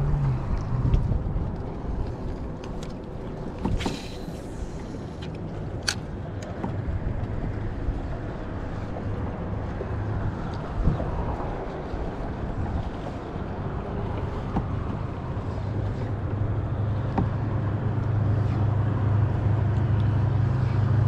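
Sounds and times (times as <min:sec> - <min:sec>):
wind on microphone: 0:00.0 - 0:04.9, 0:06.6 - 0:21.0
water along kayak hull: 0:00.0 - 0:21.0.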